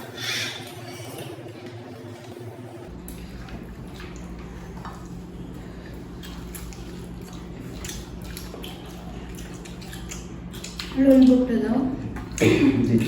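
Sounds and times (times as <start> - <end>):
wet squishing of food: 0.0 - 13.0.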